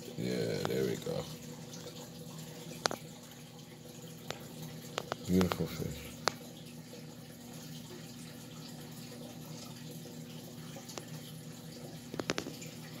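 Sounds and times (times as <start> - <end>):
aquarium water trickling: 0.0 - 13.0.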